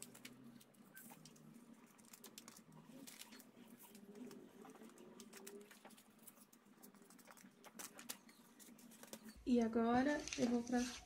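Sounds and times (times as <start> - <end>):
paper rustling and tapping: 0.0 - 9.4.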